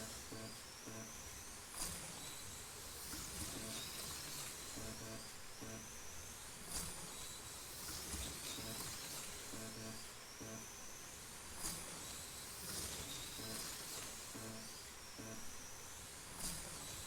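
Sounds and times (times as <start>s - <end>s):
slot car motors whining: 0.0s - 17.0s.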